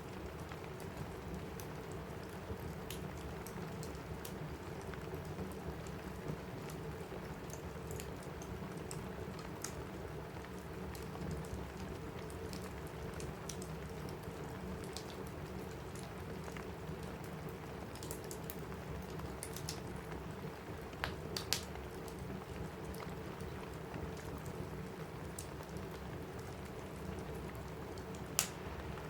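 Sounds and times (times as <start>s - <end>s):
rain on a roof: 0.0s - 29.0s
wood fire crackling: 0.0s - 29.0s.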